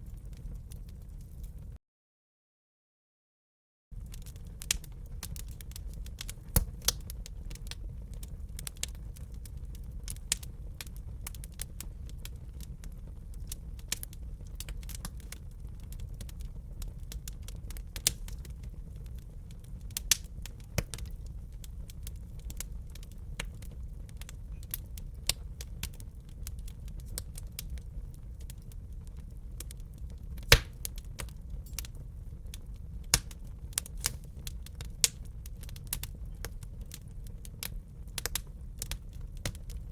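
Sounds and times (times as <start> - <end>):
wood fire crackling: 0.0 - 1.8, 4.0 - 39.9.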